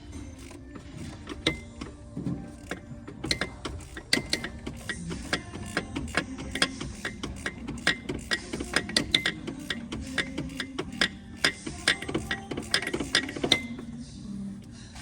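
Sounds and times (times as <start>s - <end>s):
ratchet wrench clicking: 0.4s - 13.9s.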